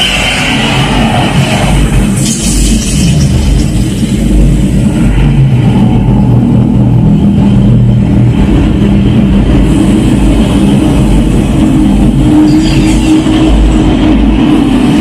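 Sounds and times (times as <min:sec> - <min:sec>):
movie soundtrack through speakers: 0:00.0 - 0:15.0.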